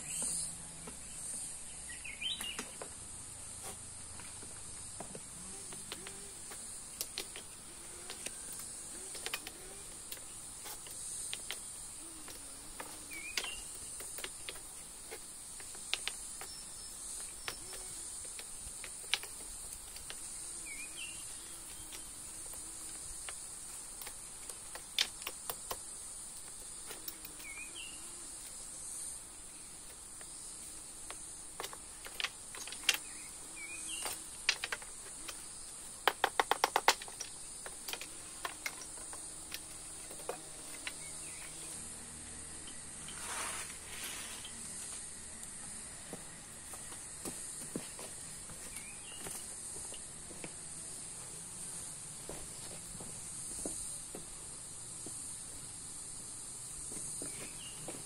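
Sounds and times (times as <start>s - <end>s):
insects shrilling: 4.7s - 52.4s.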